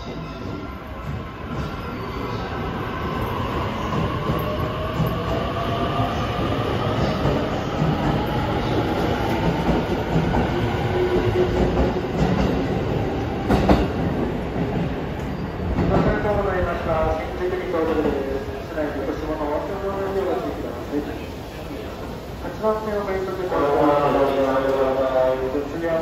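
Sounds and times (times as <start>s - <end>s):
train cars rumbling: 0.0s - 26.0s.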